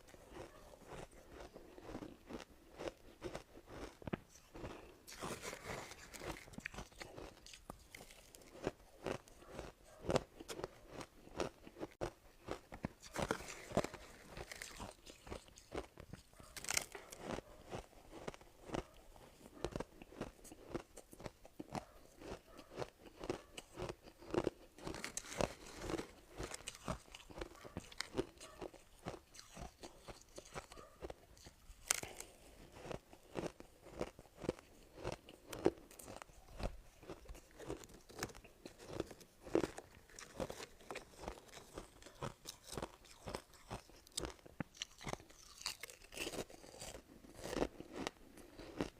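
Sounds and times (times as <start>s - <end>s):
person crunching ice cubes: 0.0s - 48.9s.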